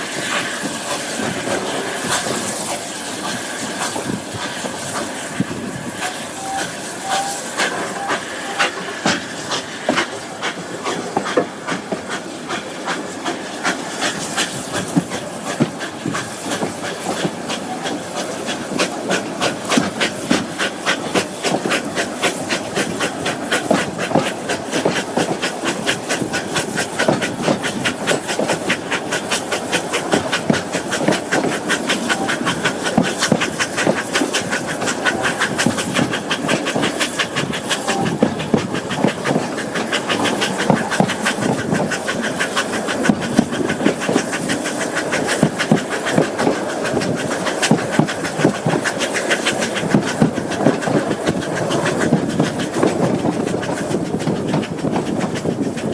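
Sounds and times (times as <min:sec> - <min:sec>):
steam hissing: 0:00.0 - 0:55.9
steam locomotive exhaust beats: 0:00.0 - 0:55.9.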